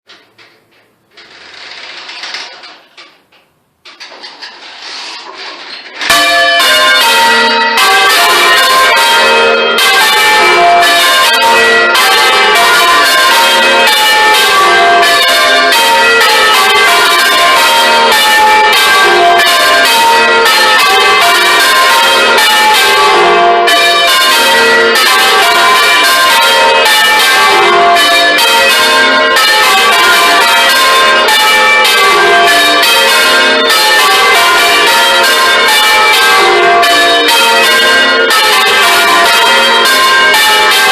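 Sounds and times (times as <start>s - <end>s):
church bells ringing: 6.0s - 40.9s.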